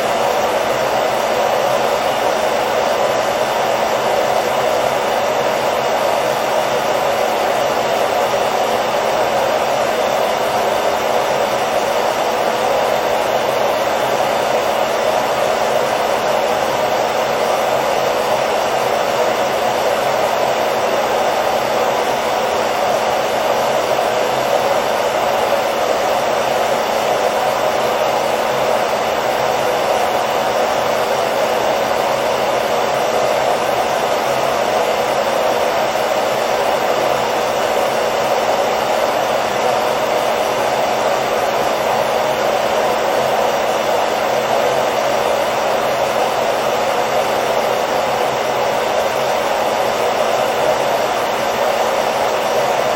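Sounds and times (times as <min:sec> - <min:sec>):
hair dryer running: 0:00.0 - 0:52.9.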